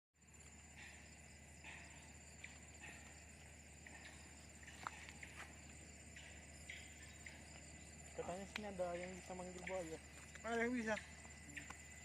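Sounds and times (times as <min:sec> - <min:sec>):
high insect drone: 0:00.2 - 0:12.0.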